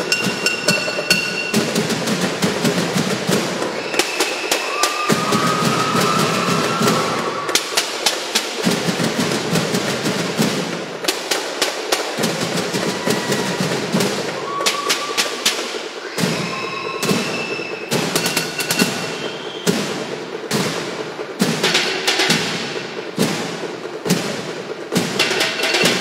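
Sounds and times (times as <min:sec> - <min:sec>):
percussion band drumming: 0:00.0 - 0:26.0.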